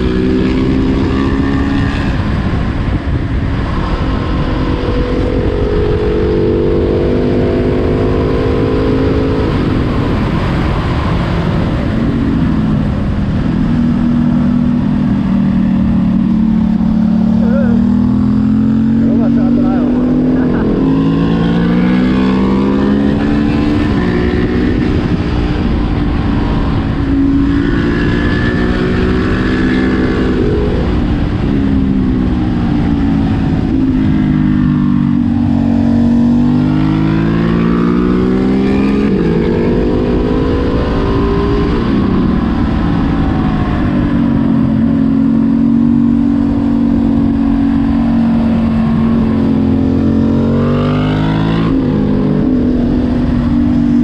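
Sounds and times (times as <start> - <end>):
motorcycle engine revving: 0.0 - 54.0
wind buffeting microphone: 0.0 - 54.0.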